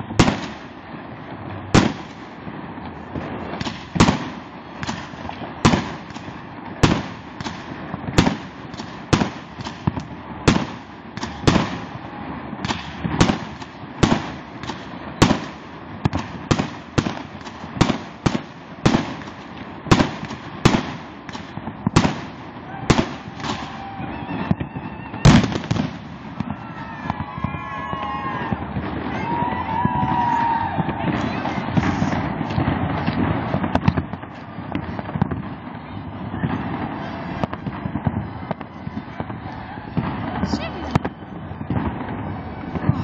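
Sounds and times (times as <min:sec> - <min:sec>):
fireworks banging: 0:00.0 - 0:43.0.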